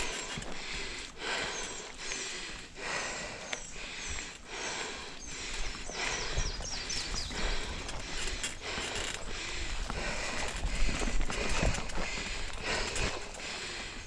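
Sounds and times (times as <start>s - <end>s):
bike rattling and knocking: 0.0s - 1.8s, 4.6s - 14.0s
bike tyres on dirt trail: 0.0s - 14.0s.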